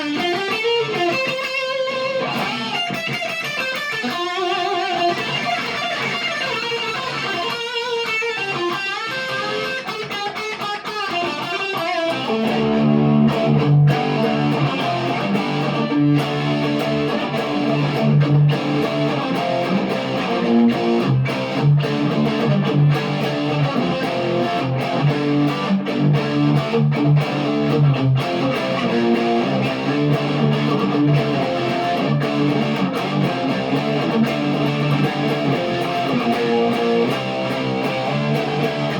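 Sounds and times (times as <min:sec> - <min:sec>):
electric guitar chord ringing: 0:00.0 - 0:38.9
picked electric guitar riff: 0:00.0 - 0:38.9.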